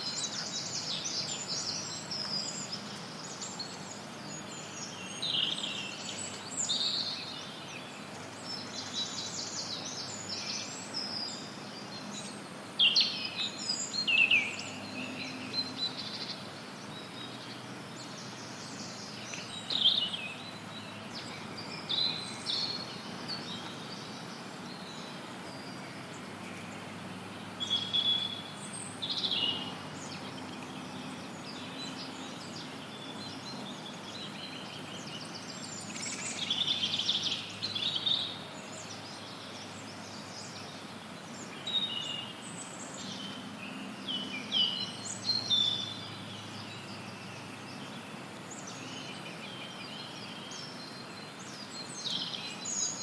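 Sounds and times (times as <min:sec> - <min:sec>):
songbirds chirping and singing: 0:00.0 - 0:53.0
white noise hiss: 0:00.0 - 0:53.0.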